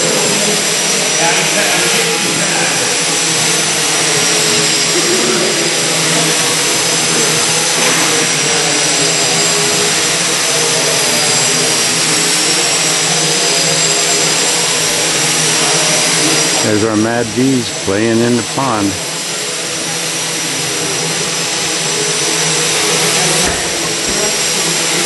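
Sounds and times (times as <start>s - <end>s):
model airplane motors whining: 0.0s - 17.0s, 19.0s - 25.0s.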